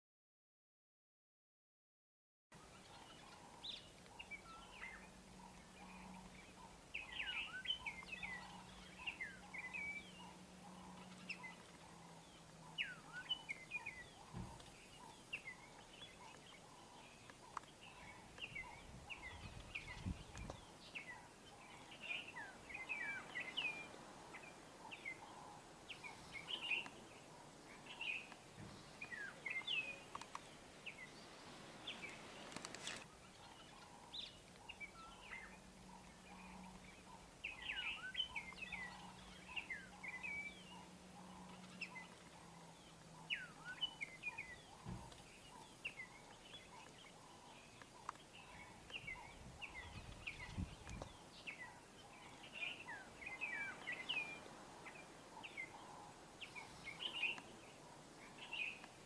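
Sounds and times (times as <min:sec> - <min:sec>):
faint outdoor air hiss: 0:02.5 - 0:59.0
small birds chirping: 0:02.6 - 0:59.0.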